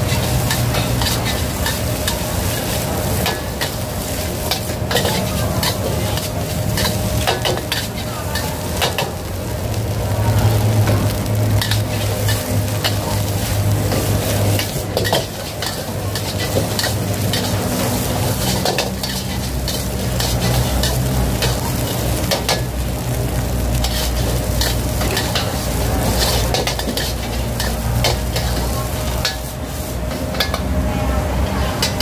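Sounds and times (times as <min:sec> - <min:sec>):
metal spatula scraping a wok: 0:00.0 - 0:09.2, 0:11.5 - 0:22.7, 0:23.4 - 0:30.7
rice sizzling in a wok: 0:00.0 - 0:32.0.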